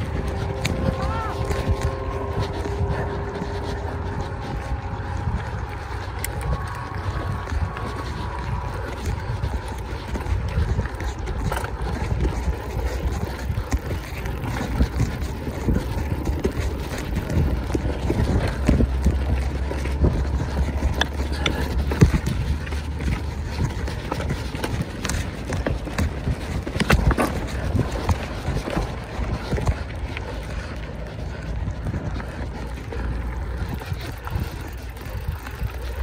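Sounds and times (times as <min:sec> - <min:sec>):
bike knocking and rattling: 0:00.0 - 0:36.0
low wind rumble on microphone: 0:00.0 - 0:36.0.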